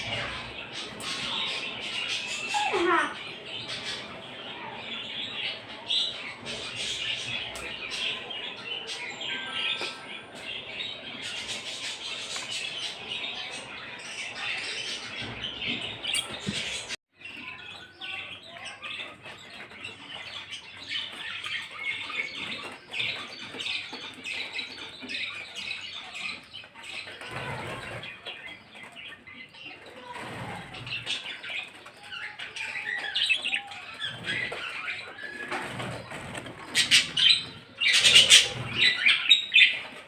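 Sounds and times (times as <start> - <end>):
birds chirping and chattering: 0.0 - 40.0.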